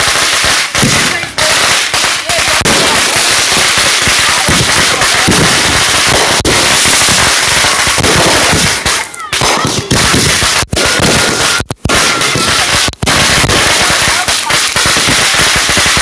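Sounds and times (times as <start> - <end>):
fireworks crackling and popping: 0.0 - 16.0.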